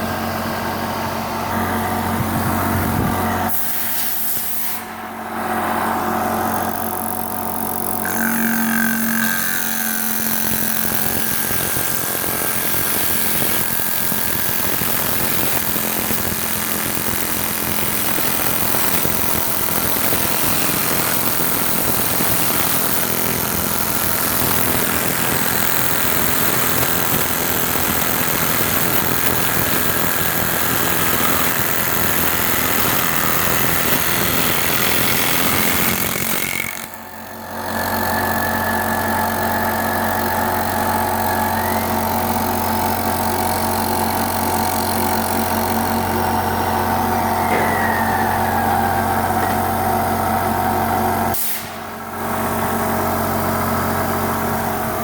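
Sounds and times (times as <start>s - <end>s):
machine tool machining: 5.8s - 51.4s.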